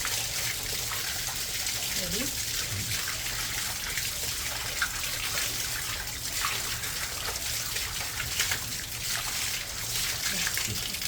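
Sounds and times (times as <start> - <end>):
falling water splashing: 0.0 - 11.0.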